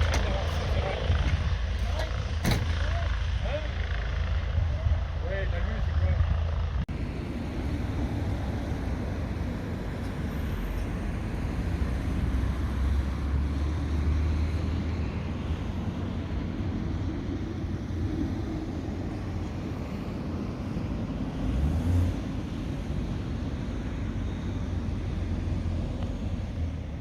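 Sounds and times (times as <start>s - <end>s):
propeller aircraft engine rumble: 0.0s - 27.0s.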